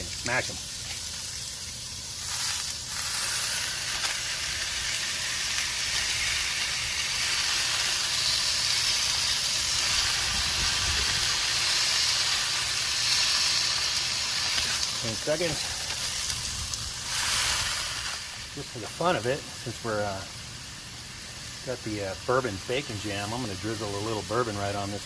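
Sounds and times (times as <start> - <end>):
meat patties sizzling on griddle: 0.0 - 25.0.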